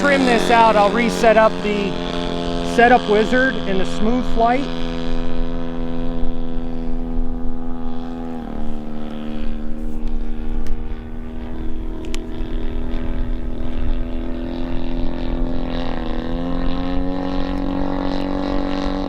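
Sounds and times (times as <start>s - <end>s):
model airplane engine running: 0.0s - 19.0s.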